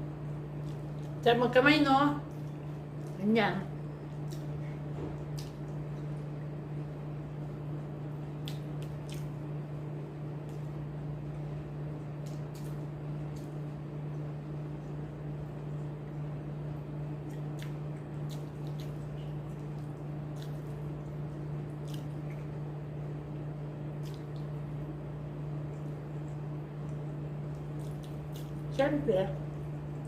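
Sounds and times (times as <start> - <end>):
wet squishes of eating: 0.0 - 1.3, 2.2 - 30.0
chewing and lip clicks: 0.4 - 1.2, 2.2 - 6.6, 7.4 - 9.6, 10.3 - 16.2, 17.0 - 28.8.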